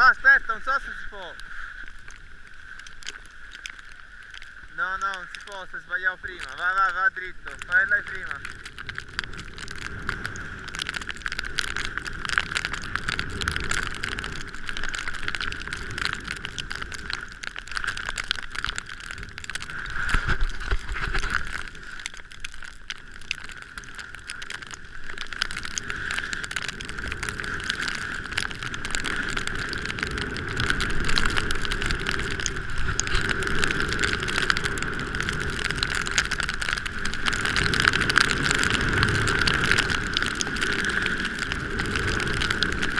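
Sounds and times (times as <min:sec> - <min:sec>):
fine rattling crackle: 0:00.0 - 0:42.9.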